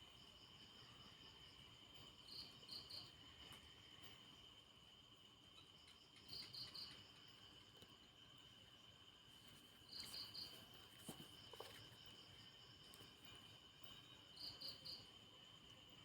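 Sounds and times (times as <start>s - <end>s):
cricket chirps: 0.0s - 16.0s.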